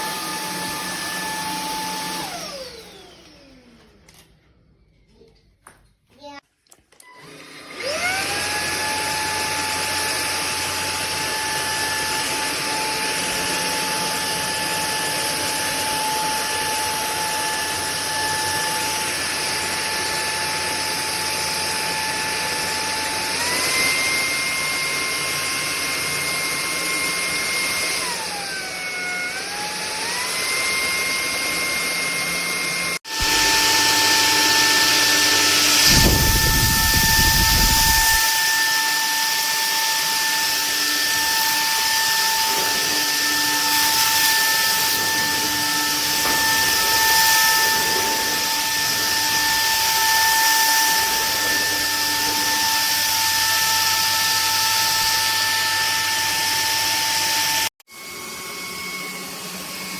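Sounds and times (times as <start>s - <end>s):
stick vacuum motor whine: 0.0s - 4.4s, 6.9s - 59.9s.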